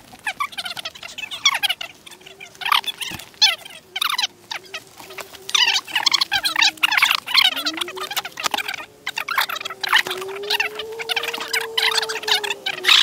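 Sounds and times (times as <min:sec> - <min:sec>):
faint steady hum: 0:00.0 - 0:13.0
chirping animal calls: 0:00.1 - 0:13.0.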